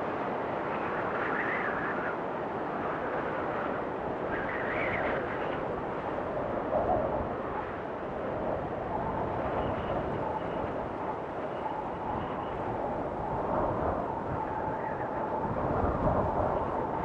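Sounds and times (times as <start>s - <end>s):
blizzard wind rushing: 0.0s - 17.0s
whistling howl of wind: 0.0s - 17.0s.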